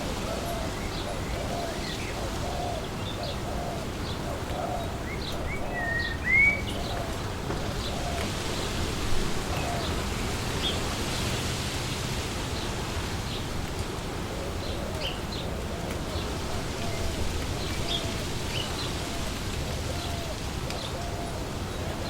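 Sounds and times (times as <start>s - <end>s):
birds chirping and calling: 0.0s - 10.9s, 14.3s - 22.0s
wind blowing through trees: 0.0s - 22.0s.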